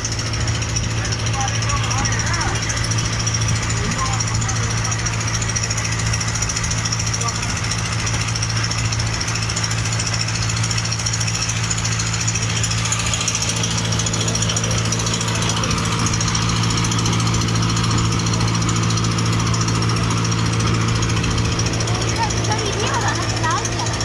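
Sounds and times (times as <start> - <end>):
motorboat engine droning: 0.0 - 24.0.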